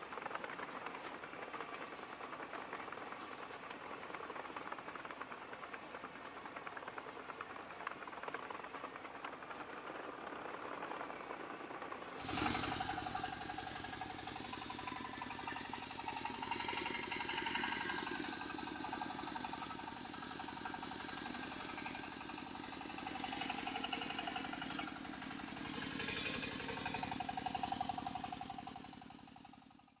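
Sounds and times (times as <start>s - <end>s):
model vehicle motor rattling: 0.0s - 29.9s.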